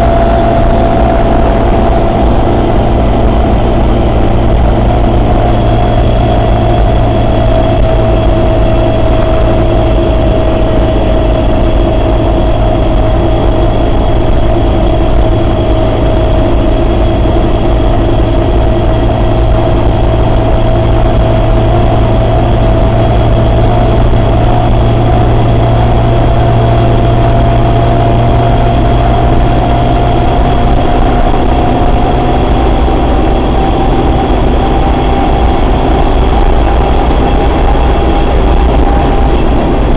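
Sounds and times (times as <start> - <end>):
drivetrain whine: 0.0 - 39.9
low engine rumble: 0.0 - 39.9.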